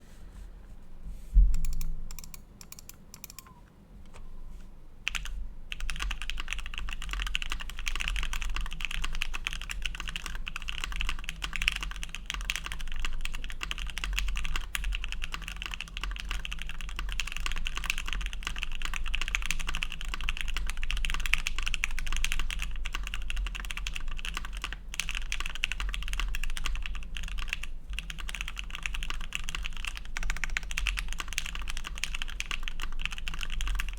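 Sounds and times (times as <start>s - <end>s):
typing on mechanical keyboard: 1.6s - 3.6s, 5.1s - 33.9s.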